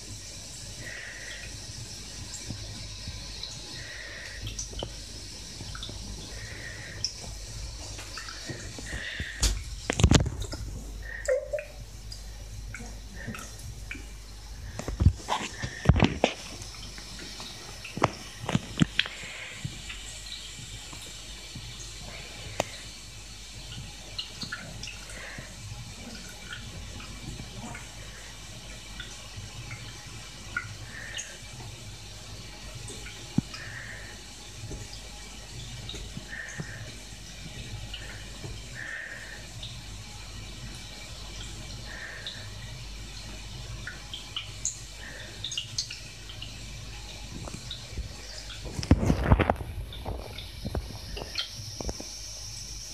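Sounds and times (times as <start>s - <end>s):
bathwater dripping and splashing: 0.0s - 52.9s.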